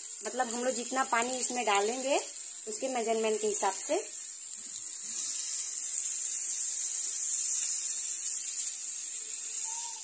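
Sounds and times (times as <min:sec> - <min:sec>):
food sizzling in a pan: 0:00.0 - 0:10.0
water poured into hot pan: 0:00.0 - 0:10.0.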